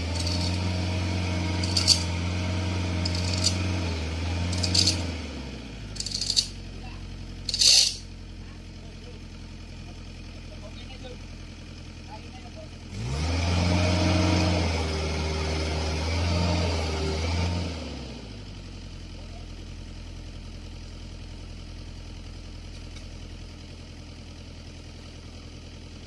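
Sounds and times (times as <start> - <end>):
excavator engine revving and idling: 0.0 - 26.0.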